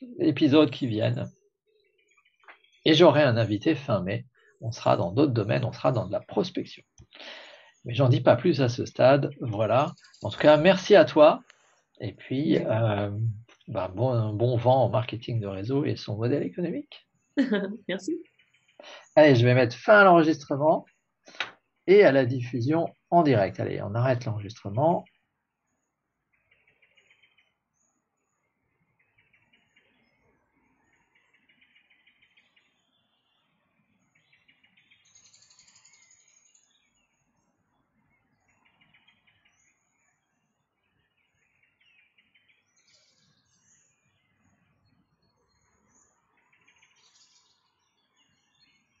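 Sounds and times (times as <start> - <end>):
faint bird chirping: 0.0 - 49.0.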